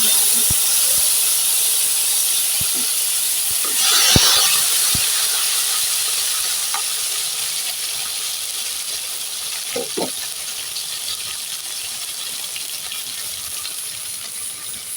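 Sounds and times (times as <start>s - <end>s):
spices sizzling in hot oil: 0.0s - 14.9s.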